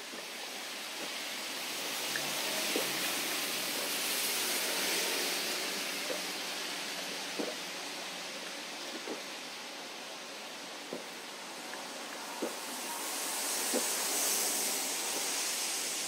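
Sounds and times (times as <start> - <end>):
soda fizzing: 0.0 - 16.0.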